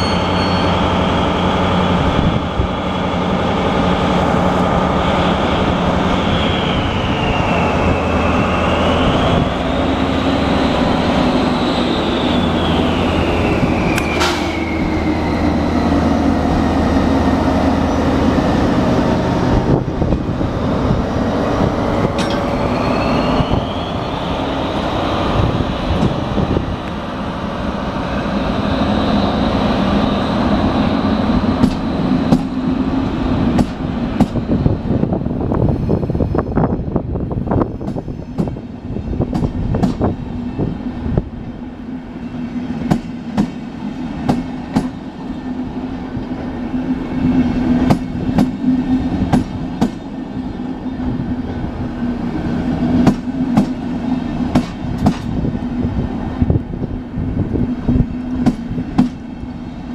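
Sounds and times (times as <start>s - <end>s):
diesel locomotive engine droning: 0.0s - 59.9s.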